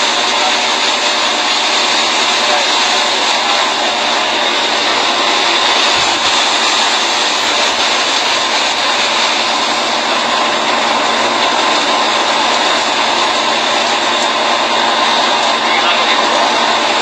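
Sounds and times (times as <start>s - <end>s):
high-pressure water jet rushing: 0.0s - 17.0s.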